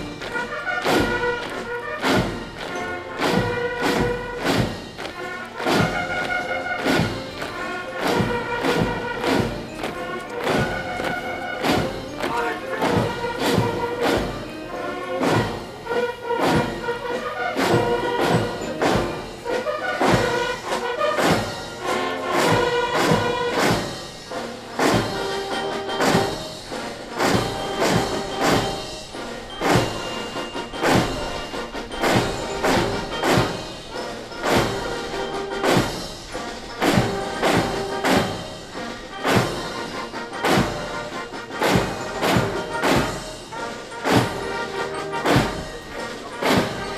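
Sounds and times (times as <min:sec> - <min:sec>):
military band playing march: 0:00.0 - 0:46.9
steady drum beat: 0:00.0 - 0:46.9.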